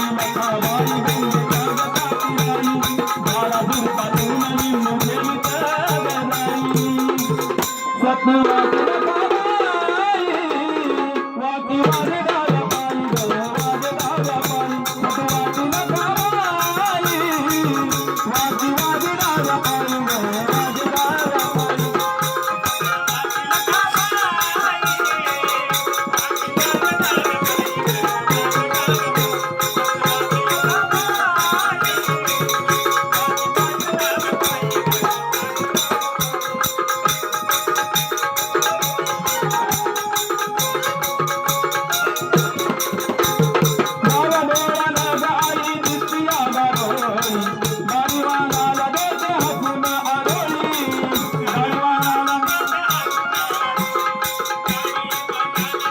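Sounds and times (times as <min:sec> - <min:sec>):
fast hand-drum and rattle: 0:00.0 - 0:07.8, 0:11.8 - 0:55.9.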